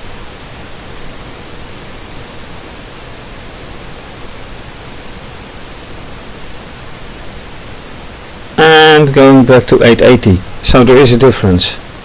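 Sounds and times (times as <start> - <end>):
steady recording hiss: 0.0 - 12.0.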